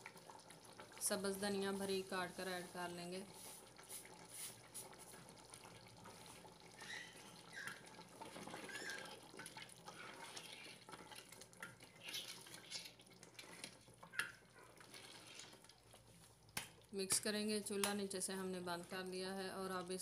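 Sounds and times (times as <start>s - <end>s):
wet squelches of stirring curry: 0.0s - 20.0s.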